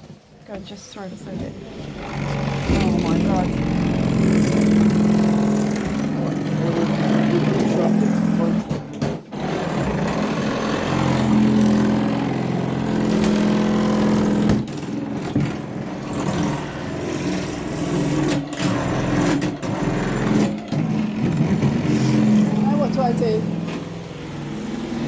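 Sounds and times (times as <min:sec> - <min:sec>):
power drill drilling: 0:01.9 - 0:08.7, 0:09.3 - 0:25.0.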